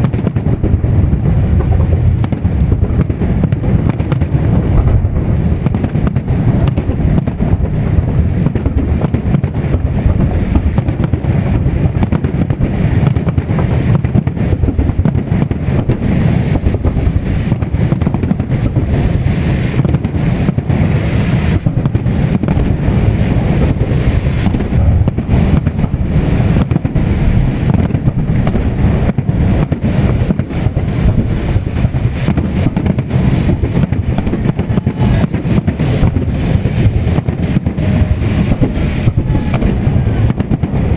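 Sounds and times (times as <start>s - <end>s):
fireworks bangs and crackles: 0.0s - 40.9s
wind rumble on microphone: 0.0s - 40.9s.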